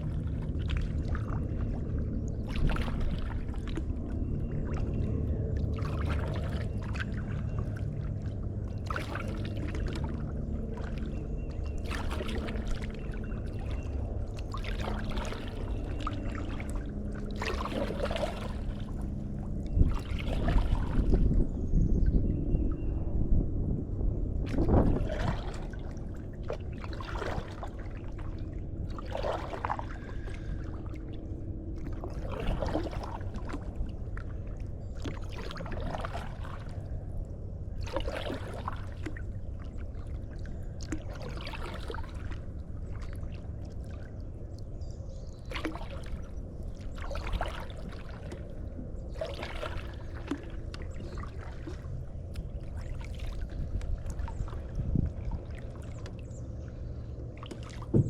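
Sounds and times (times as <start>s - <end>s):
water trickling off paddle: 0.0s - 21.3s, 24.5s - 37.2s, 37.8s - 58.0s
kayak paddle dipping in water: 0.0s - 21.5s, 24.4s - 58.0s
steady low rumble: 0.0s - 58.0s.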